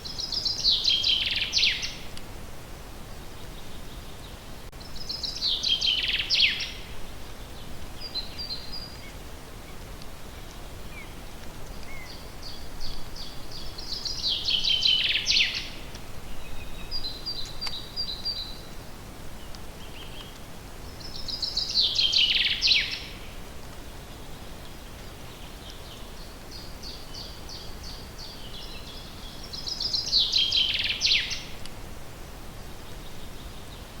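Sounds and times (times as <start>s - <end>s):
songbird singing: 0.0s - 2.3s, 3.0s - 31.8s, 32.6s - 34.0s
faint outdoor hiss: 0.0s - 34.0s.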